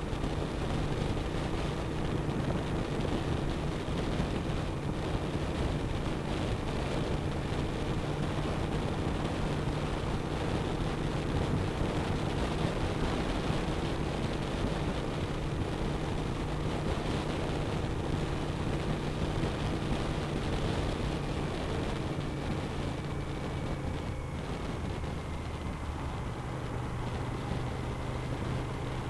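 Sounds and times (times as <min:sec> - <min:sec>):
motorcycle engine cruising: 0:00.0 - 0:29.0
wind noise on microphone: 0:00.0 - 0:29.0.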